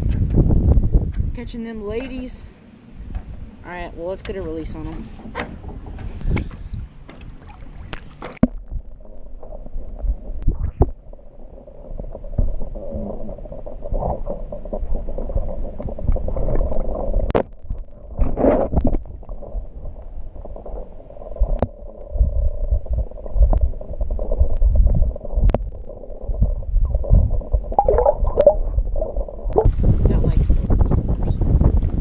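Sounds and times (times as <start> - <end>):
underwater rumbling and gurgling: 0.0 - 32.0.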